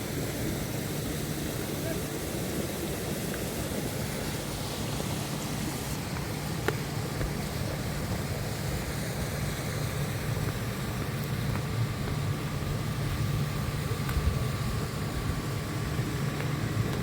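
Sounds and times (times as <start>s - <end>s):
machine humming and rumbling: 0.0s - 17.0s.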